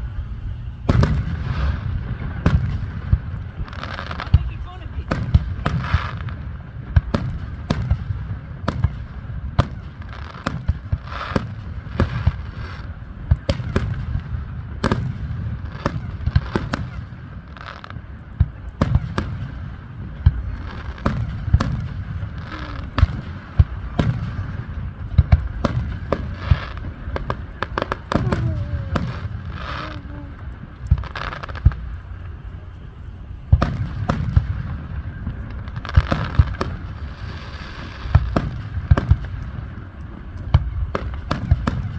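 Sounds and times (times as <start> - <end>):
fireworks bangs: 0.0 - 41.9
low rolling rumble: 0.0 - 41.9.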